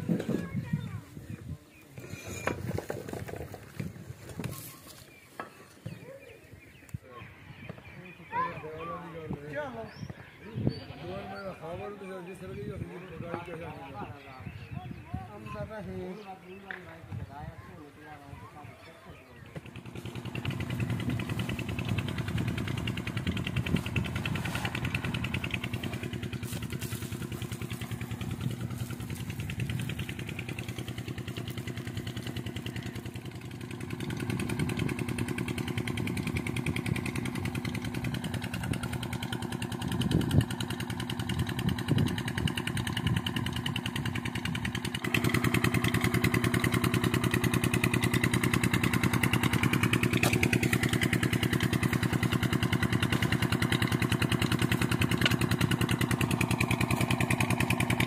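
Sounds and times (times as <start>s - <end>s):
engine humming: 0.0s - 58.0s.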